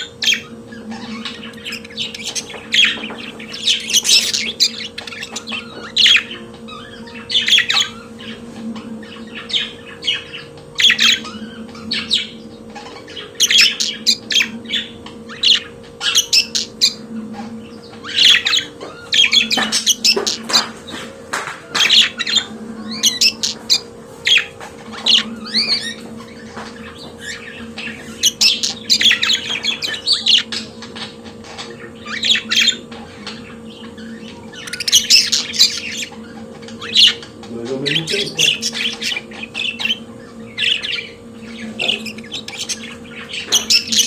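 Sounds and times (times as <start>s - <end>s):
budgerigars chattering and warbling: 0.0s - 44.0s
steady low hum: 0.0s - 44.0s.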